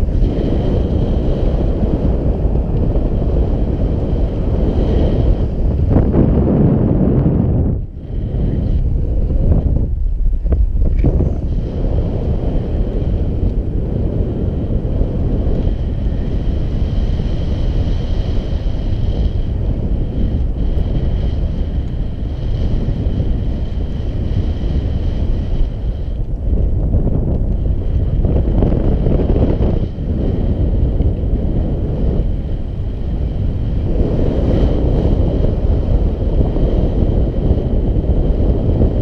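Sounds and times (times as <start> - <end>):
wind rumble on microphone: 0.0 - 39.0.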